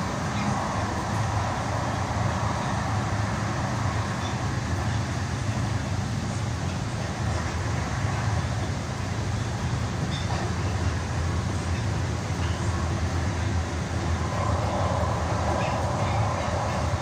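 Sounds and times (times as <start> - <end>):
light rail train running on track: 0.0 - 17.0.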